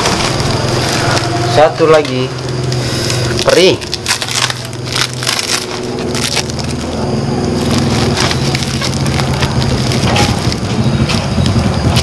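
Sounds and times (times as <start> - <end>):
plastic sack crackling and rustling: 0.0 - 12.0
steady low hum: 0.0 - 12.0.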